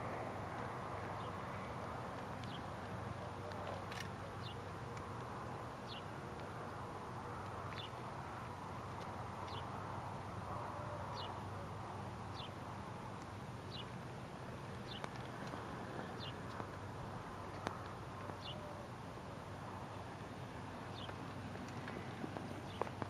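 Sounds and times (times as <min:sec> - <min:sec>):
outdoor background rumble: 0:00.0 - 0:23.0.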